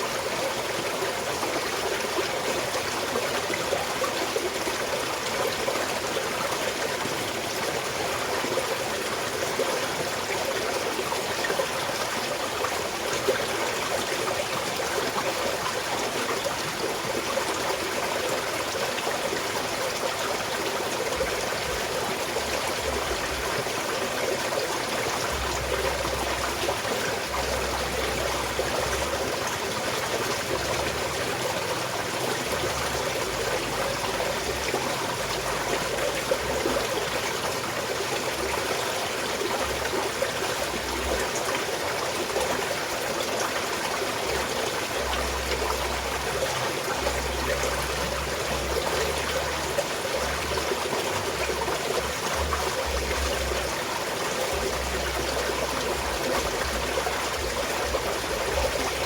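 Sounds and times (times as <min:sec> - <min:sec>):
stream trickling over stones: 0:00.0 - 0:59.0.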